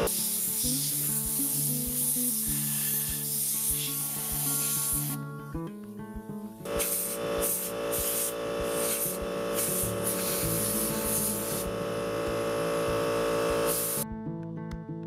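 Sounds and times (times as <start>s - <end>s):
compressed air blow gun hissing: 0.0s - 5.2s, 6.7s - 14.0s.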